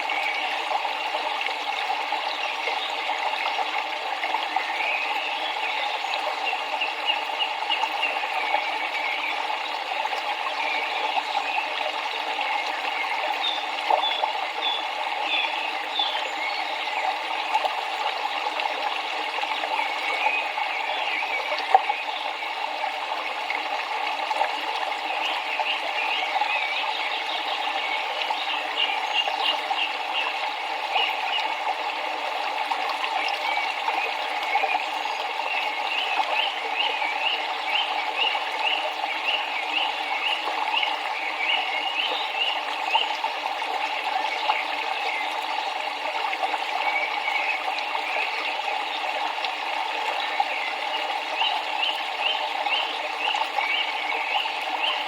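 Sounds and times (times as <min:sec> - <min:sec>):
flowing river water: 0:00.0 - 0:55.0.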